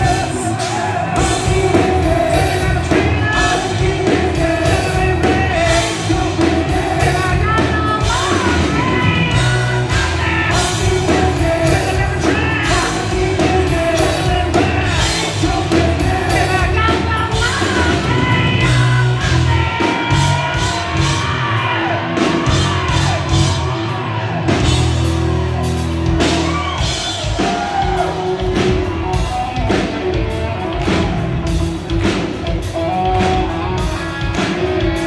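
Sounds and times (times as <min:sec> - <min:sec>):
drums: 0:00.0 - 0:35.0
electric guitar: 0:00.0 - 0:35.0.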